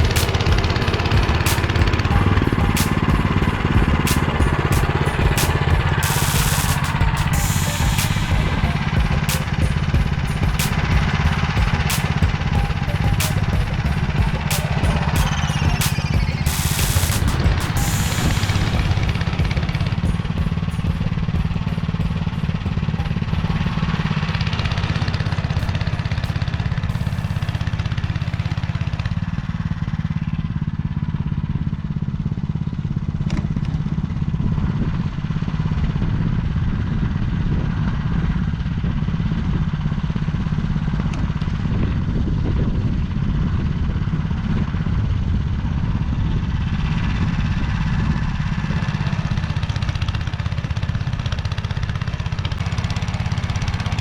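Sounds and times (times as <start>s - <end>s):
tractor engine running: 0.0s - 35.9s, 43.4s - 54.0s.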